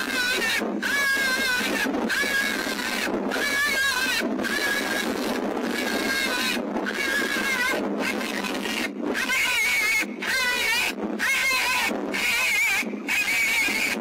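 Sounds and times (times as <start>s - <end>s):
electronic animal distress call: 0.0s - 14.0s.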